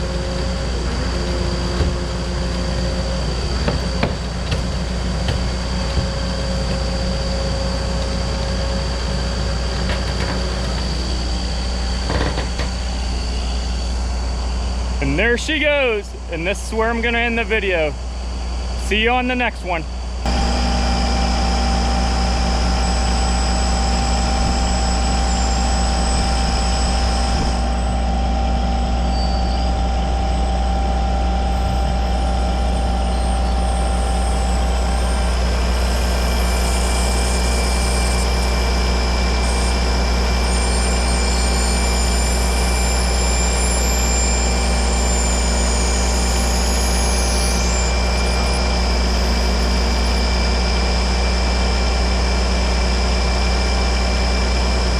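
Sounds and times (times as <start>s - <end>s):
heavy engine running: 0.0s - 54.9s.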